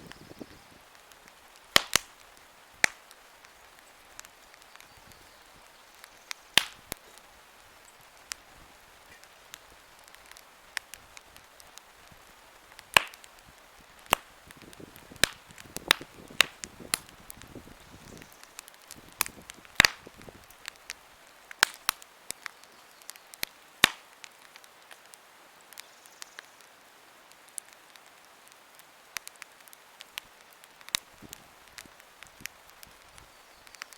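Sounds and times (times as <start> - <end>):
campfire crackling and popping: 0.0 - 33.9
faint hiss: 0.0 - 33.9.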